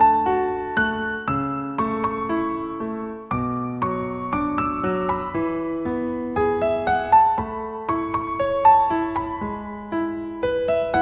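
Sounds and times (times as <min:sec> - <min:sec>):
soft piano melody: 0:00.0 - 0:11.0.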